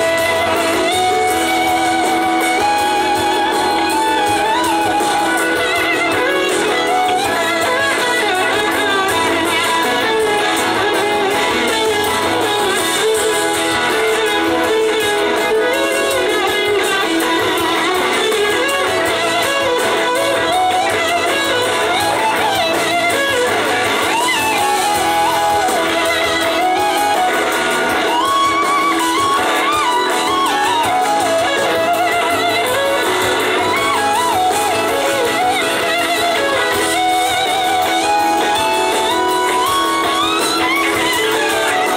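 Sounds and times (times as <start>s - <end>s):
electric guitar solo: 0.0s - 41.9s
live rock band playing: 0.0s - 41.9s.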